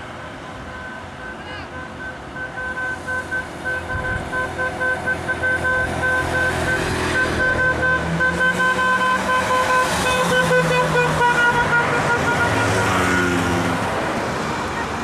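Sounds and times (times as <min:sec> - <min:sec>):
engine and traffic noise: 0:00.0 - 0:15.0
vehicle horn honking: 0:00.8 - 0:13.0.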